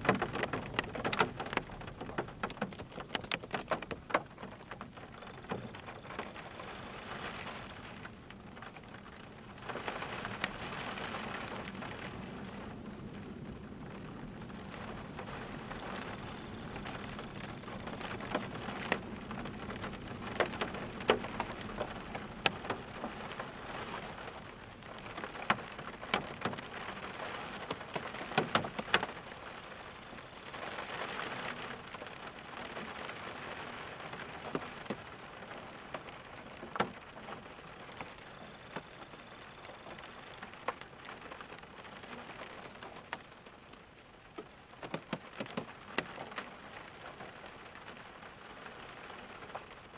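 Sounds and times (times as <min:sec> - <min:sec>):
steady rainfall: 0:00.0 - 0:49.9.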